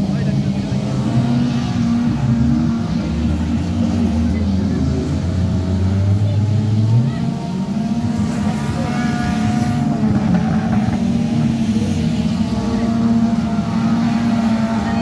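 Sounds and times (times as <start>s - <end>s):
race car engines roaring: 0.0s - 15.0s.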